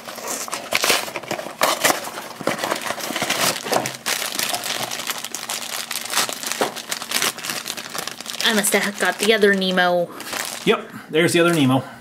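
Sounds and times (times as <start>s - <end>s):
plastic foil bag crinkling: 0.0s - 10.8s.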